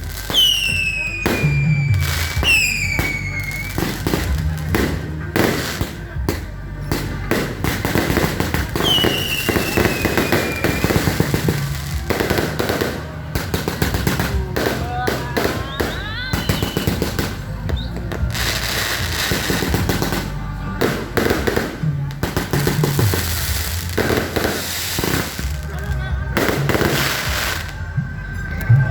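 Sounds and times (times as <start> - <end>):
fireworks crackling pops: 0.0 - 27.8.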